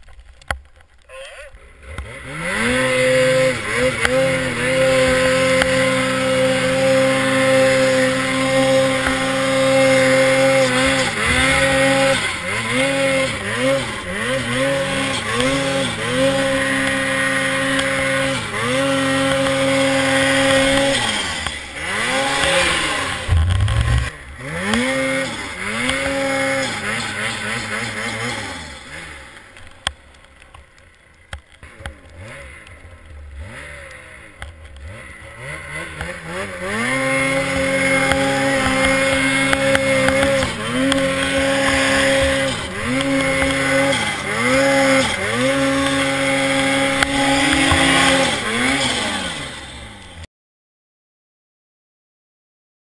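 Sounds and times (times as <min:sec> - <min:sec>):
snowmobile engine revving: 0:01.2 - 0:29.4, 0:31.6 - 0:50.3.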